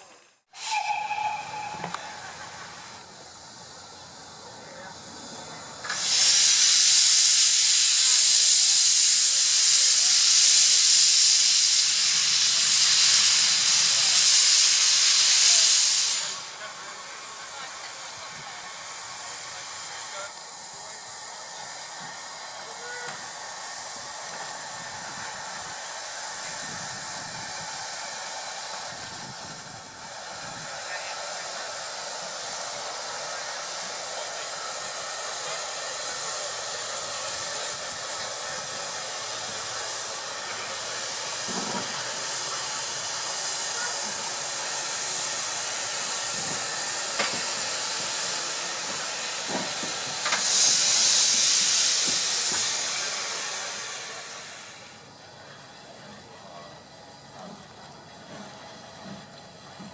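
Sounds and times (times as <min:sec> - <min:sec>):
steam hissing: 0:00.0 - 0:57.4.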